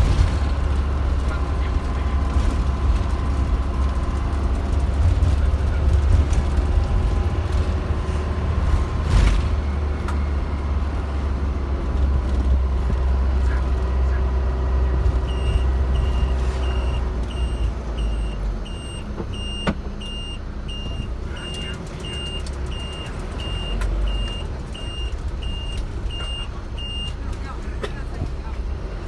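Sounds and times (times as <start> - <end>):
bus engine and road noise: 0.0 - 29.0.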